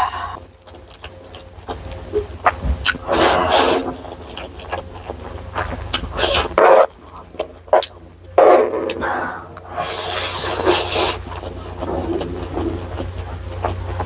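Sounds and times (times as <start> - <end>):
person chewing: 0.0 - 14.0.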